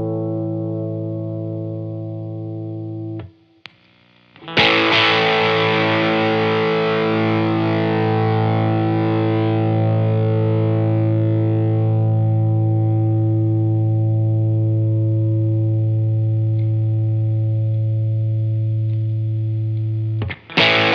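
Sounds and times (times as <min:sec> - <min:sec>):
electric guitar chords: 0:00.0 - 0:20.9.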